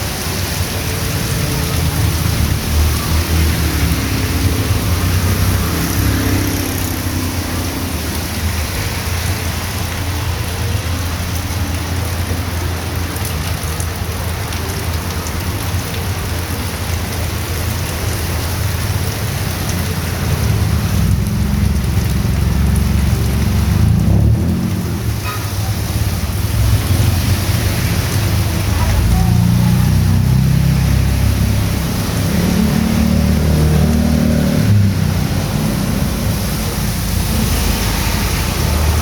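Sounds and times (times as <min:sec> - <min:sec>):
heavy rain on street: 0:00.0 - 0:39.0.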